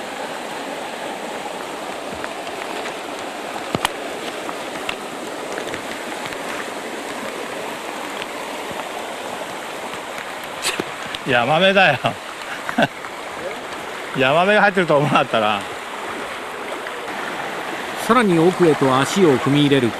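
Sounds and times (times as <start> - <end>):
stream rushing over rocks: 0.0 - 19.9.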